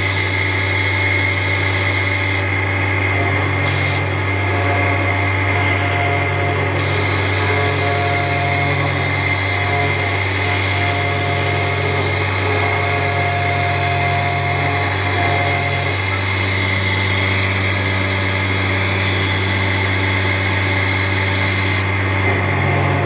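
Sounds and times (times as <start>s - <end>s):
router spindle milling wood: 0.0s - 23.0s.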